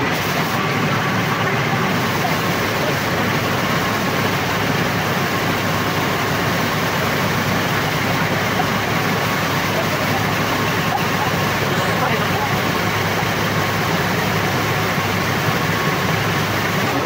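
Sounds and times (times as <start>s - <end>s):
drilling rig running: 0.0s - 17.0s.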